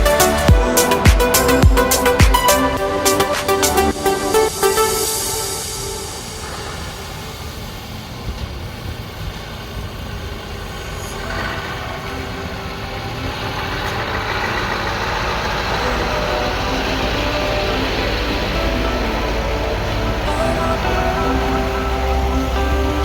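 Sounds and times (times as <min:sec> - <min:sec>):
heavy truck engine running: 0:00.0 - 0:23.0.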